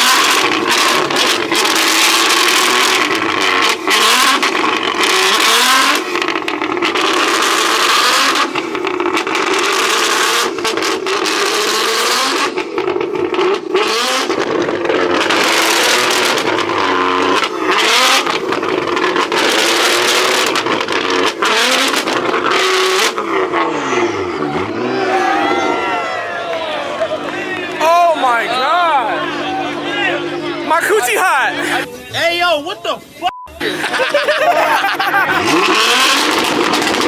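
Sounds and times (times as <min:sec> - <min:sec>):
car engine revving: 0:00.0 - 0:31.9, 0:33.6 - 0:37.0.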